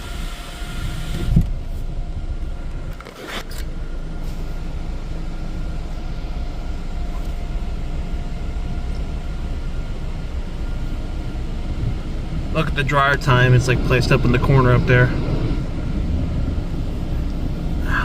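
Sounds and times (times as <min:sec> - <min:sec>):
car wash dryer blowers: 0:00.0 - 0:18.0.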